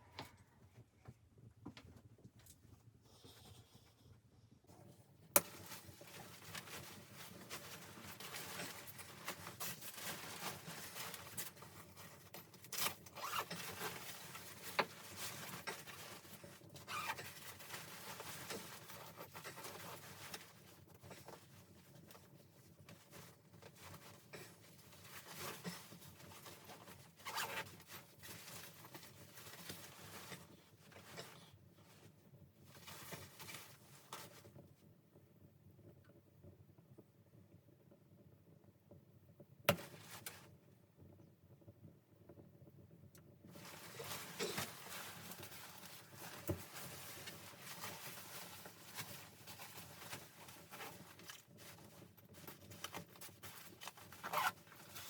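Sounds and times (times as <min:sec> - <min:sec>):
rustling and scraping of handling: 0:00.0 - 0:34.9, 0:39.7 - 0:40.6, 0:43.5 - 0:55.0.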